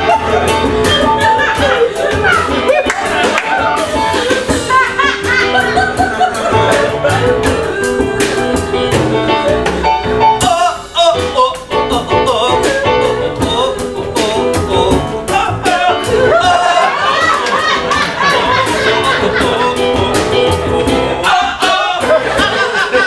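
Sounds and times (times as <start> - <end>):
blues rock jam: 0.0 - 23.0
voices singing: 0.0 - 23.0.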